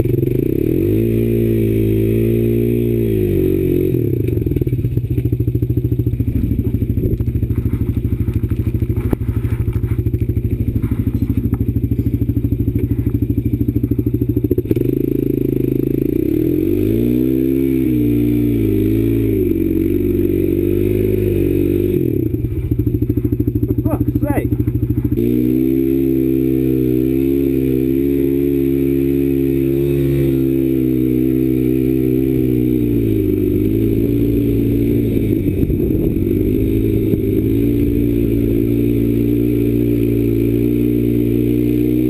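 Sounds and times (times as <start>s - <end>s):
quad bike engine revving: 0.0s - 42.0s.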